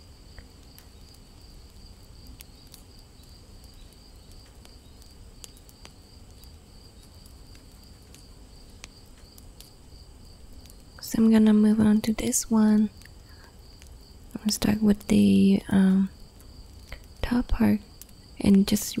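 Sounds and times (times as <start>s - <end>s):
background hiss: 0.0s - 19.0s
faint high-pitched whine: 0.0s - 19.0s.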